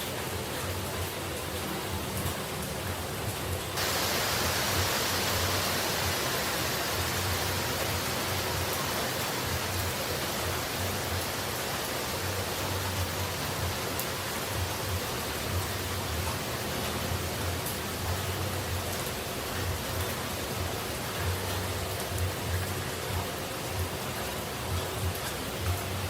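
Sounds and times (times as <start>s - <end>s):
falling water rushing: 0.0s - 26.0s.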